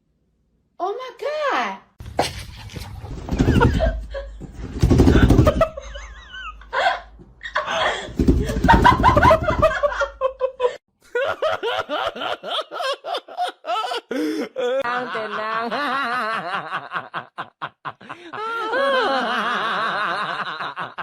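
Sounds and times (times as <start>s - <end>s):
person laughing: 2.1s - 21.0s.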